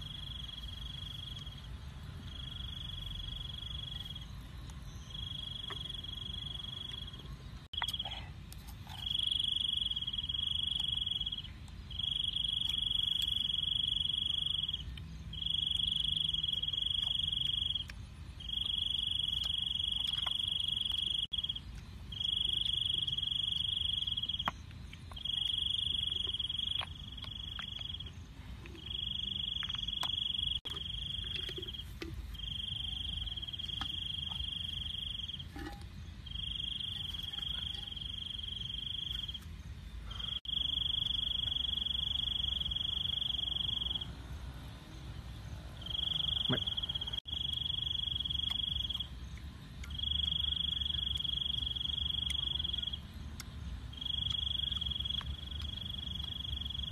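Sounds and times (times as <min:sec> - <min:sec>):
cricket trilling: 0:00.0 - 0:56.9.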